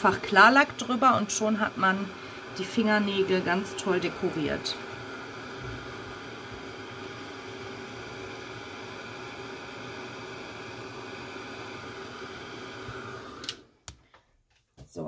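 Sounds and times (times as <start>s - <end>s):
heat tool blowing hot air: 0.0s - 13.7s.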